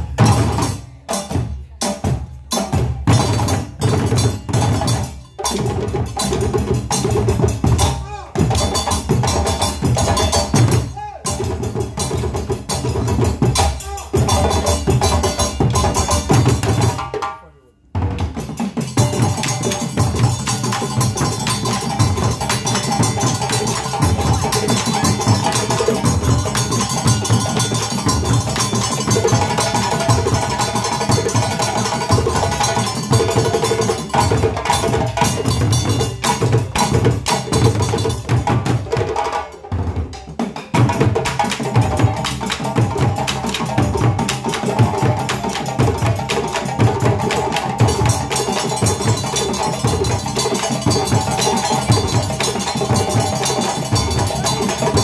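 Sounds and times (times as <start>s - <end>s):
djembe and bass drum ensemble: 0.0s - 55.0s.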